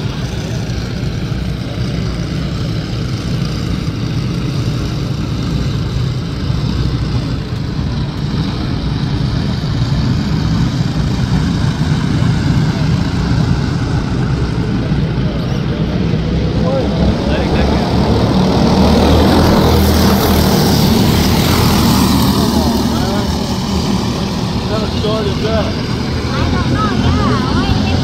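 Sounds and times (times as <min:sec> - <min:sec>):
go-kart engines droning: 0:00.0 - 0:28.0.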